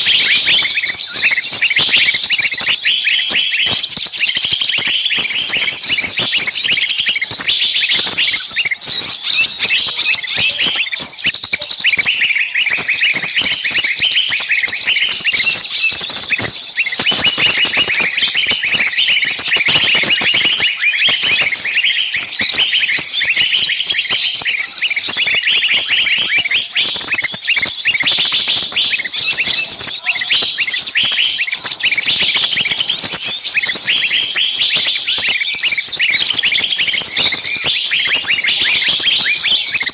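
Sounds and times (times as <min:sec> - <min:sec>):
bird distress calls: 0:00.0 - 0:39.9
songbirds chirping and calling: 0:00.0 - 0:39.9.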